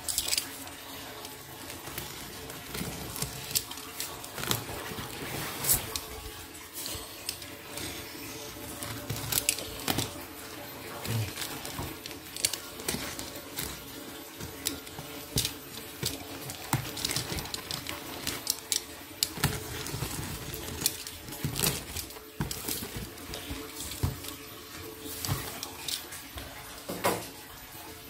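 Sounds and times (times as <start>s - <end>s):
tape tearing: 0.0s - 26.2s
cardboard rustling: 0.0s - 26.8s.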